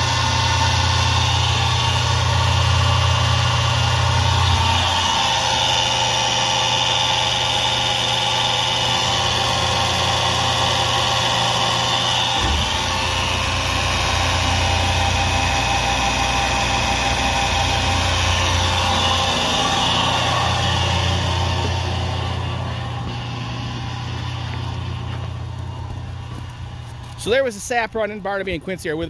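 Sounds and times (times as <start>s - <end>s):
vacuum pump humming: 0.0s - 29.0s.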